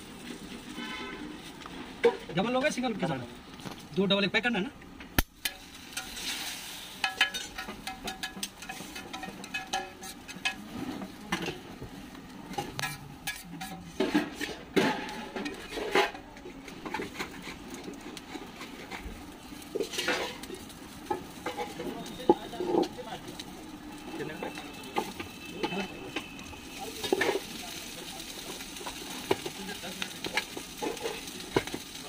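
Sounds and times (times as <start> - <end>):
metal spatula scraping griddle: 0.1 - 2.3, 5.4 - 11.7, 12.5 - 32.0.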